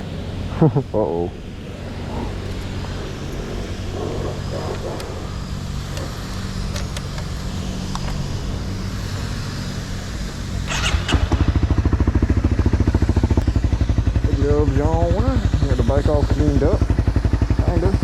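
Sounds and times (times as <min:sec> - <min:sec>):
low engine hum: 0:00.0 - 0:18.0
motorcycle engine starting and idling: 0:01.7 - 0:18.0.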